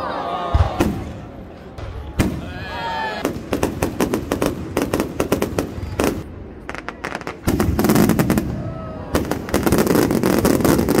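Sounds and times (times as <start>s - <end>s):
fireworks bangs and crackles: 0.5s - 11.0s.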